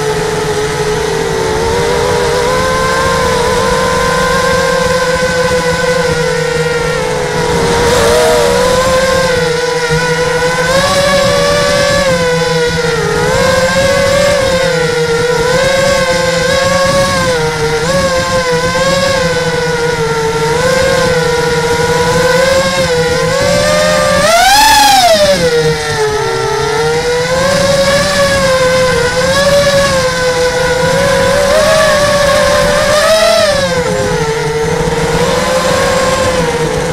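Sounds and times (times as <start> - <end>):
low hum: 0.0 - 36.9
model aircraft motor whine: 0.0 - 36.9
rush of noise: 0.0 - 36.9.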